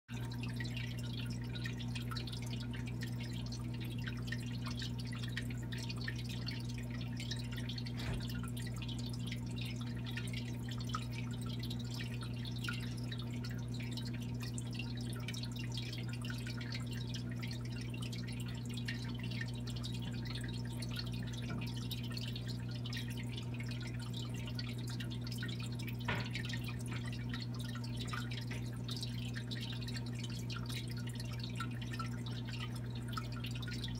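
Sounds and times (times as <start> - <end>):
low pump hum: 0.1 - 33.9
water trickling and dripping: 0.1 - 33.9.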